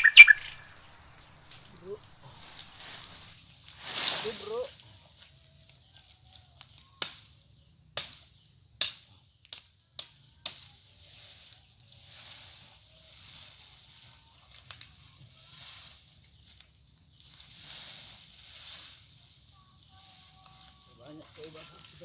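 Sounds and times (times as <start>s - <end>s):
high insect whine: 0.0s - 8.7s, 10.6s - 22.0s.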